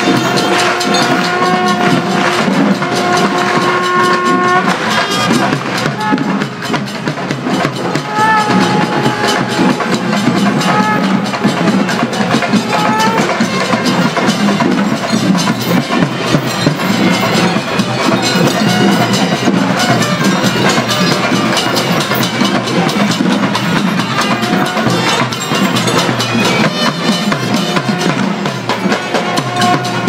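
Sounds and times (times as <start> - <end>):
rapid procession drumming: 0.0 - 30.0.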